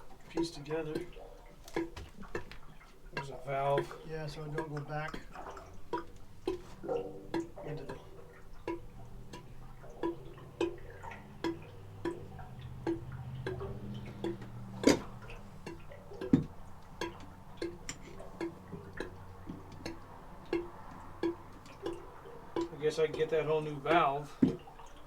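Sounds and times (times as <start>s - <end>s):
water dripping: 0.0s - 25.0s.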